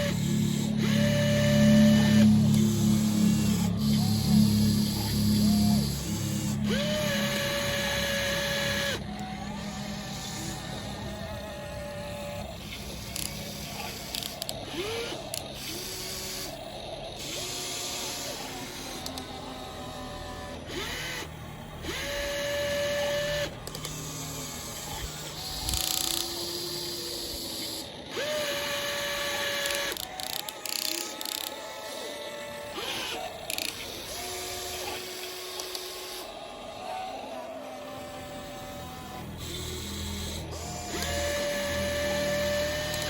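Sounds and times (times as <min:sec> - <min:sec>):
small electric motors whining: 0:00.0 - 0:43.0.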